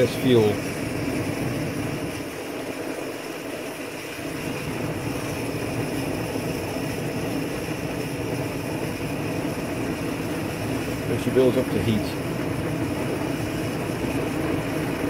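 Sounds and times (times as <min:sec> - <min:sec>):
stove burner rushing: 0:00.0 - 0:15.0.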